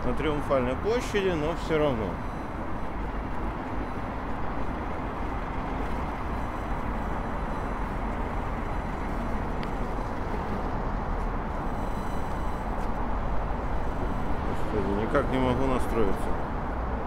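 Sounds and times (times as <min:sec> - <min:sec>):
faint high steady tones: 0:00.0 - 0:16.5.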